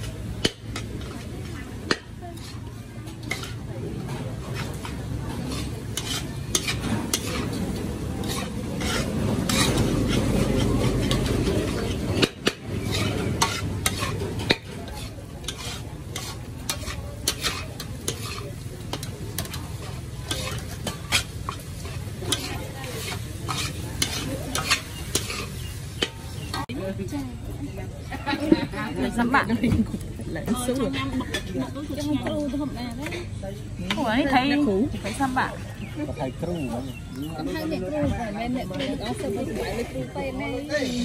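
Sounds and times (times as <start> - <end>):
metal spatula scraping wok: 0.0 - 27.0, 27.8 - 41.0
rice sizzling: 0.0 - 41.0.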